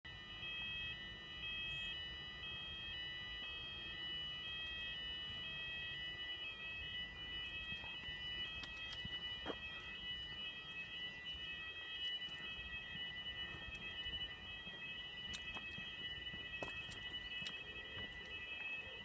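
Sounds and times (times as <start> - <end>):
two-tone fire alarm: 0.0 - 19.0.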